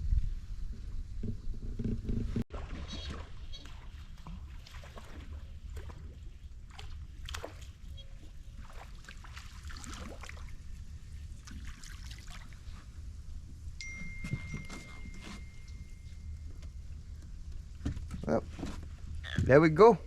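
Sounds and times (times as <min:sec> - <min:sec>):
water sloshing against boat: 0:01.4 - 0:19.9.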